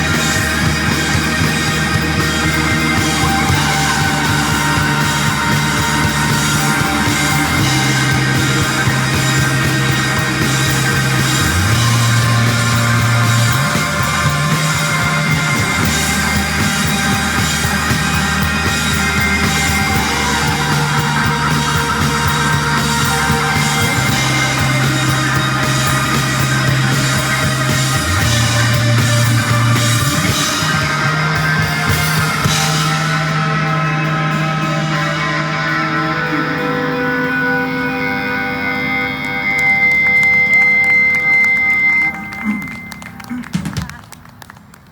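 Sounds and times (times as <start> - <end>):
drum kit: 0.0 - 37.9
guitars: 0.0 - 43.8
bass guitar: 0.0 - 44.4
keyboard: 0.0 - 44.9.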